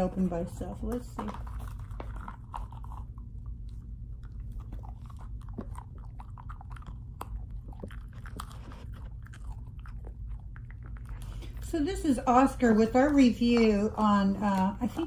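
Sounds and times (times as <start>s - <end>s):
steady low hum: 0.0s - 15.0s
dog chewing with crunching clicks: 0.1s - 15.0s.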